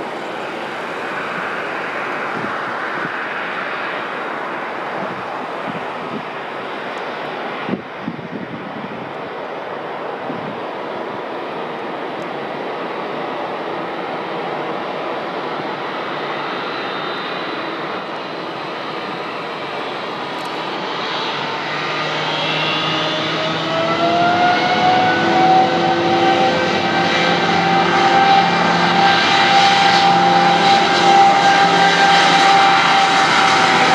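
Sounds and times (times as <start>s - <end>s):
jet engines taxiing: 0.0s - 33.9s.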